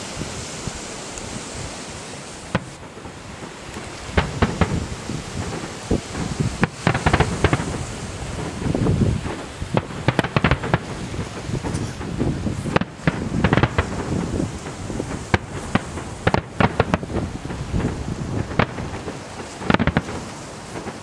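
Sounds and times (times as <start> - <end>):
fireworks bangs and crackles: 0.0 - 21.0
rolling booms: 2.4 - 21.0.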